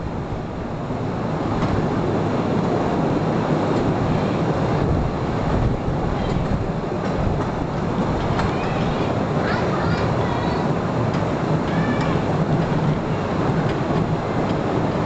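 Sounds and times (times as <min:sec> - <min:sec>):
train wheels rattling on rails: 0:00.0 - 0:15.0.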